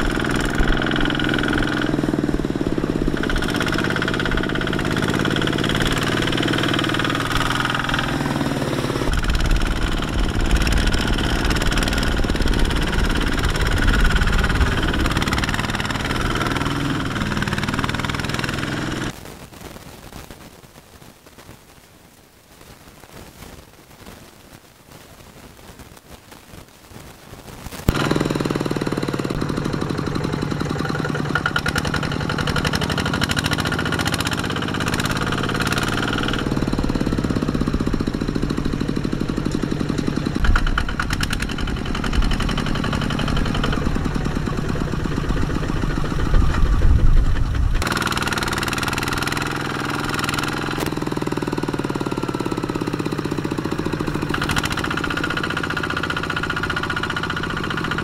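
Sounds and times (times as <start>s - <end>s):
diesel tractor engine chugging: 0.0s - 19.1s, 27.9s - 58.0s
wheels churning through mud: 0.0s - 19.2s, 27.8s - 58.0s.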